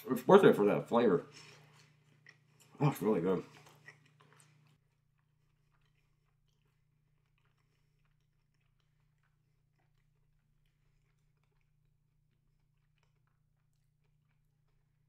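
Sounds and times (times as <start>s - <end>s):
chewing chocolate bar: 0.9s - 15.0s.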